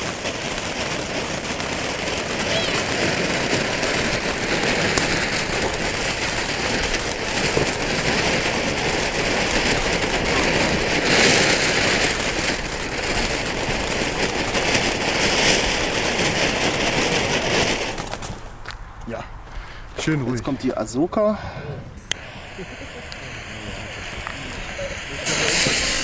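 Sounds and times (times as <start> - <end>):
firework fountain hissing and crackling: 0.0 - 18.8, 22.0 - 26.0.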